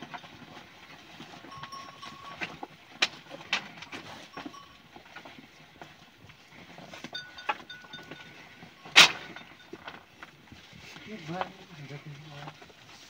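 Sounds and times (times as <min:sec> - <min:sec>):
sheep flock milling: 0:00.0 - 0:13.0.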